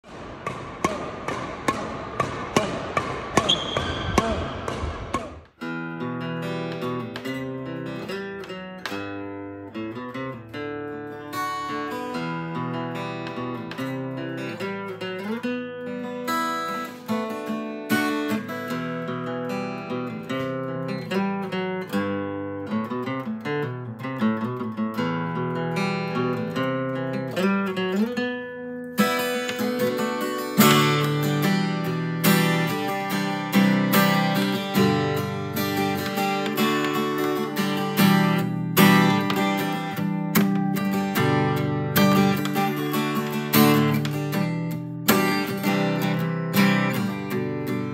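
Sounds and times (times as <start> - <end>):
acoustic guitar: 0.0 - 47.9.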